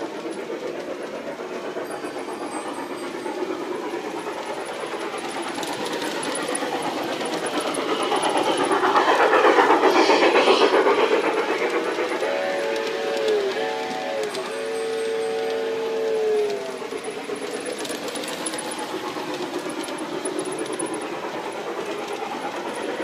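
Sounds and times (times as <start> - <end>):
model train clattering on track: 0.0 - 23.0.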